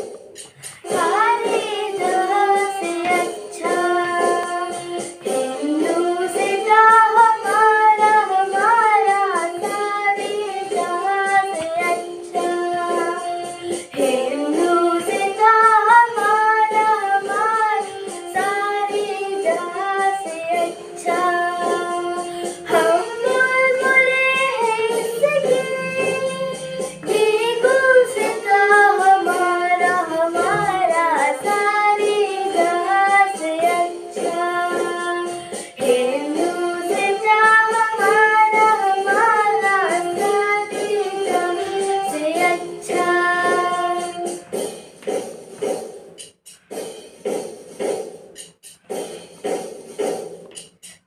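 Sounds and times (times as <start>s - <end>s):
girl singing: 0.8s - 44.5s.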